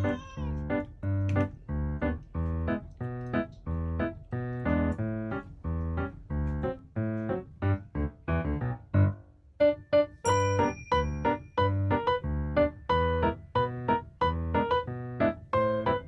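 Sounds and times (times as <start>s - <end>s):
keyboard chords in bouncy rhythm: 0.6s - 16.0s.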